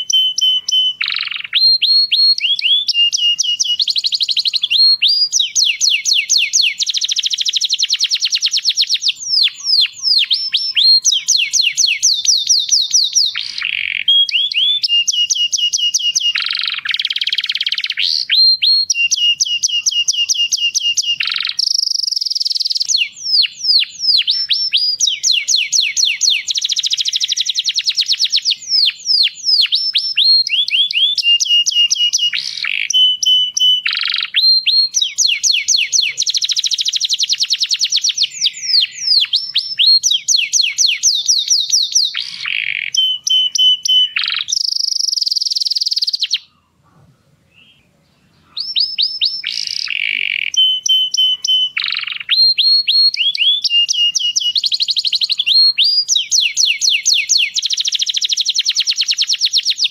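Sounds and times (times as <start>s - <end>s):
canary singing trills: 0.0s - 46.9s, 47.5s - 59.9s.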